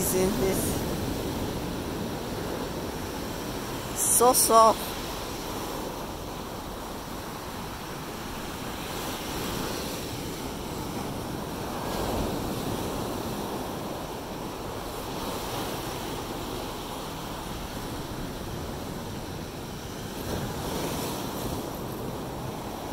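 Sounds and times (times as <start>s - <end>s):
ocean surf washing on beach: 0.0s - 22.9s
wind rumbling on microphone: 0.0s - 22.9s.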